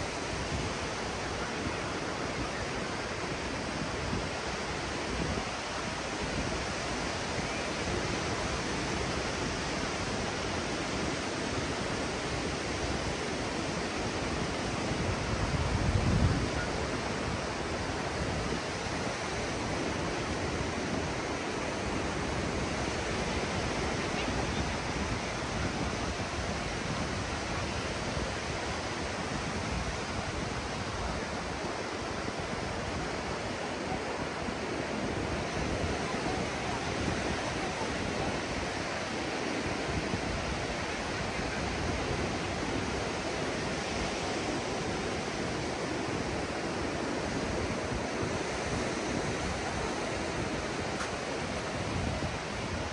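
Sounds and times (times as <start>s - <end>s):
ocean surf washing onto beach: 0.0s - 52.9s.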